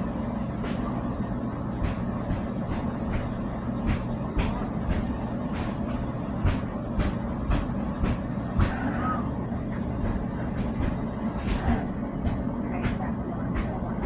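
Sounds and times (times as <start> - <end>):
mechanical rumble: 0.0 - 14.0.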